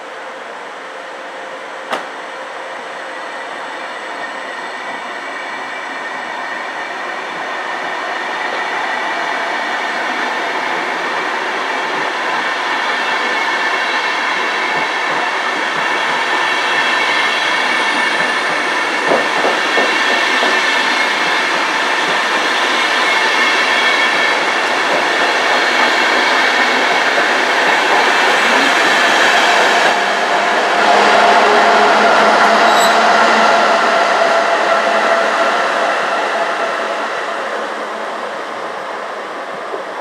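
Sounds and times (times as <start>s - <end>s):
train wheels rumbling on rails: 3.6s - 40.0s.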